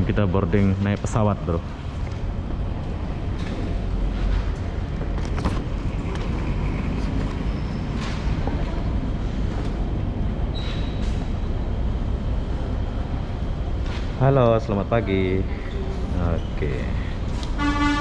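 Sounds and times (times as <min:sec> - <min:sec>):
low rumble of terminal hall: 0:00.0 - 0:18.0.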